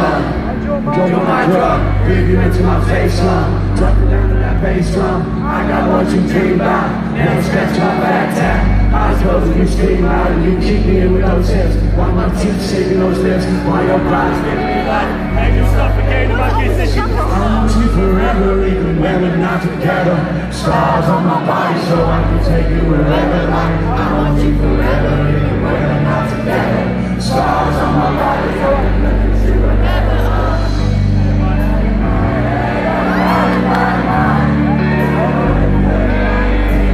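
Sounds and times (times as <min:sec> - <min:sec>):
heavy bass: 0:00.0 - 0:36.9
live concert music: 0:00.0 - 0:36.9
person singing: 0:00.0 - 0:36.9
sung vocals: 0:00.0 - 0:36.9.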